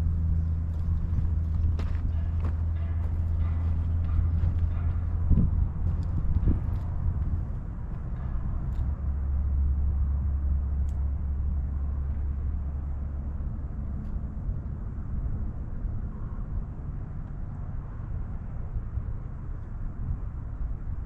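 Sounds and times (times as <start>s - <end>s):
diesel locomotive drone: 0.0s - 21.0s
rumble of rolling train cars: 0.0s - 21.0s.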